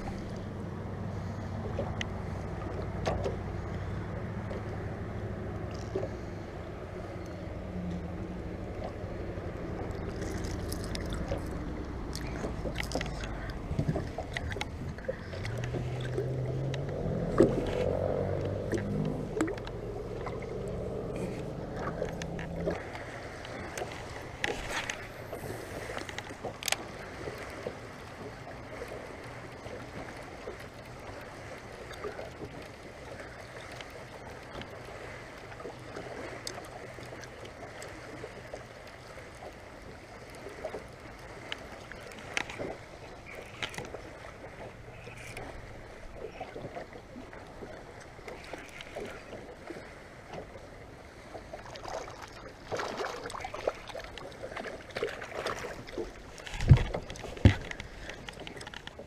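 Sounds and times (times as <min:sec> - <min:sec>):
boat motor humming: 0:00.0 - 0:59.0.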